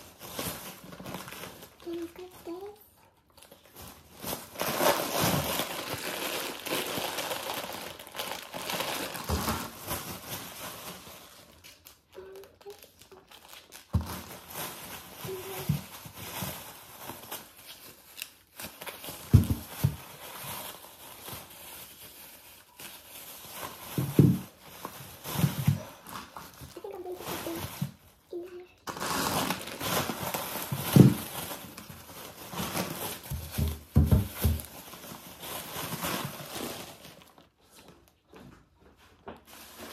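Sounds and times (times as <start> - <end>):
plastic bag rustling and crinkling: 0.0 - 39.9.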